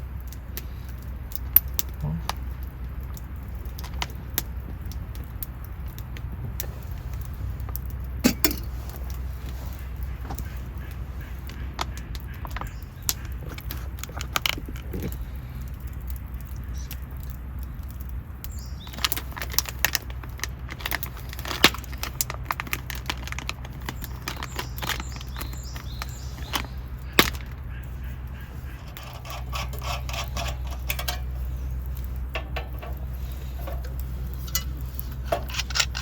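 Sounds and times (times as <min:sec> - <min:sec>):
steady low hum: 0:00.0 - 0:36.0
objects being handled clicking: 0:00.2 - 0:09.2, 0:11.4 - 0:27.8, 0:28.9 - 0:36.0.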